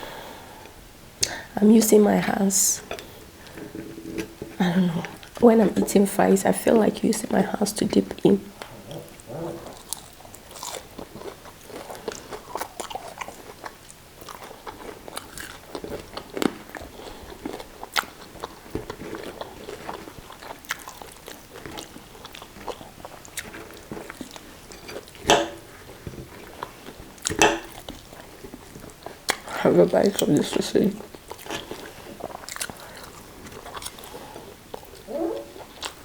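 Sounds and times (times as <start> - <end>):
chewing and crunching food: 2.8 - 36.0.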